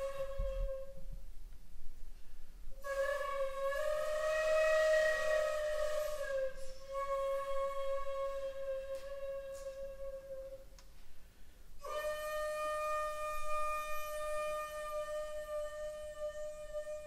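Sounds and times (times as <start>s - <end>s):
breathy bamboo flute note: 0.0s - 1.2s, 2.7s - 17.0s.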